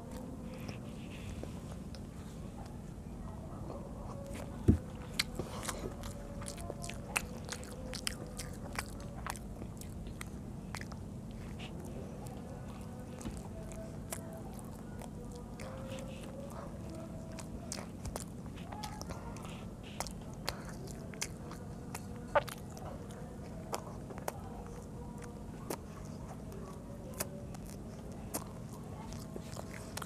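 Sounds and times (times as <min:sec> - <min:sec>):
child chewing: 0:00.0 - 0:30.0.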